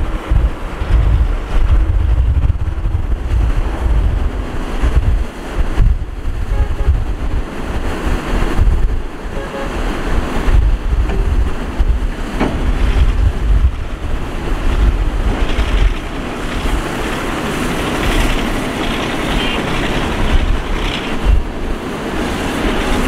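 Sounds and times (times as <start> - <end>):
heavy diesel machinery running: 0.0 - 23.0
wind buffeting microphone: 0.0 - 23.0.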